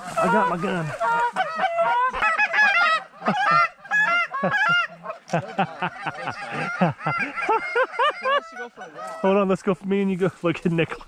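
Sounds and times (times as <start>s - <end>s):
goose calls honking and clucking: 0.0s - 9.3s.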